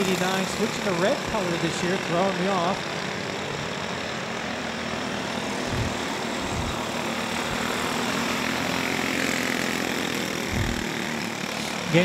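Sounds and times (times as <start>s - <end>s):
go-kart engines racing: 0.0s - 12.0s.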